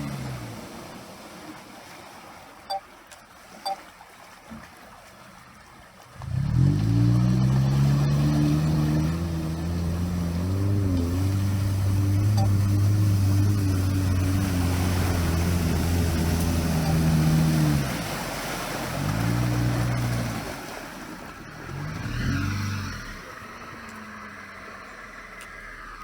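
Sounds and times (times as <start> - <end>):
off-road vehicle engine: 0.0 - 1.7, 6.2 - 26.0.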